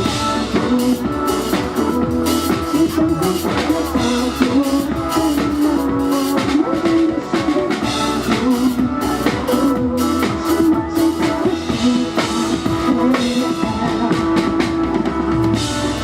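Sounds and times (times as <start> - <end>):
drum kit beat: 0.0 - 16.0
live rock band playing: 0.0 - 16.0.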